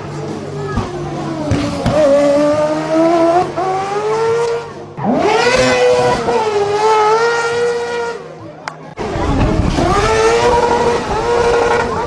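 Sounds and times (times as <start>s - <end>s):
buggy engines revving high: 0.1s - 12.0s.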